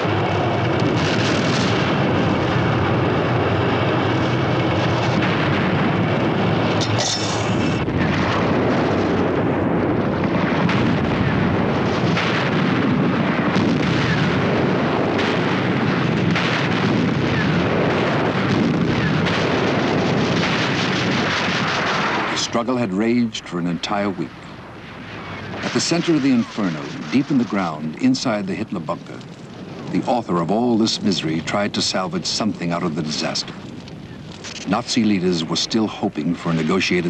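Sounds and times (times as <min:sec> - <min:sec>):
artillery fire: 0:00.0 - 0:37.0
explosions: 0:00.0 - 0:37.0.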